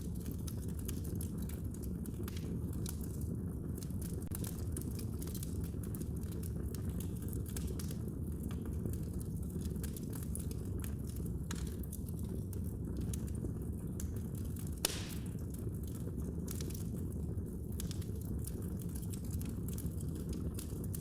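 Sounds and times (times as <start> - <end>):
fire snapping and popping: 0.0 - 21.0
low rumble of burning: 0.0 - 21.0.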